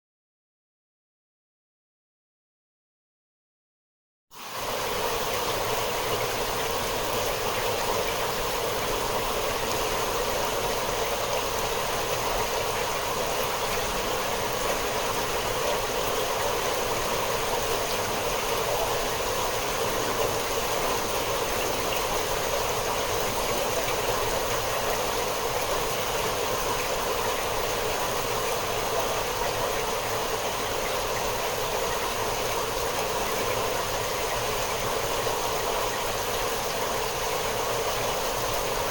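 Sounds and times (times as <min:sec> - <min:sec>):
steady rain: 0:04.4 - 0:38.9.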